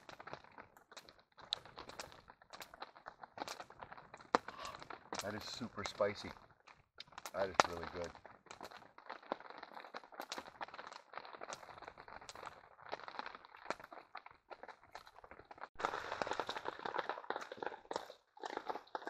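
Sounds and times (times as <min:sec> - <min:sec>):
crackling campfire: 0:00.0 - 0:19.0
rain pattering: 0:00.0 - 0:19.0.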